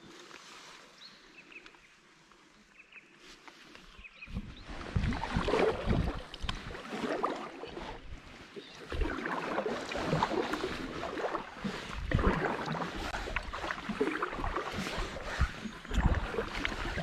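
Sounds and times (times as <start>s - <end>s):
water splashing around a kayak: 2.5s - 17.0s.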